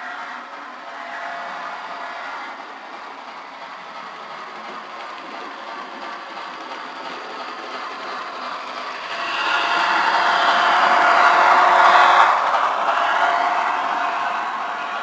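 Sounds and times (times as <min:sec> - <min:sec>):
model train running: 0:00.0 - 0:15.0.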